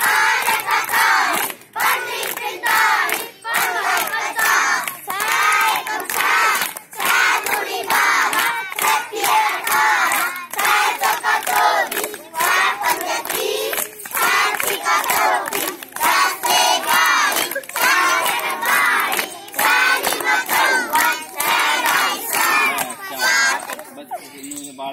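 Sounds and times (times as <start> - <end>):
children chanting: 0.0 - 24.0.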